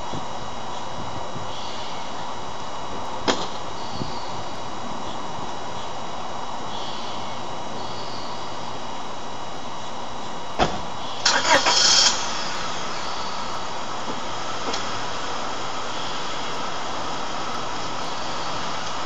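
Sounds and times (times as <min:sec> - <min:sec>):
outdoor noise hiss: 0:00.0 - 0:19.0.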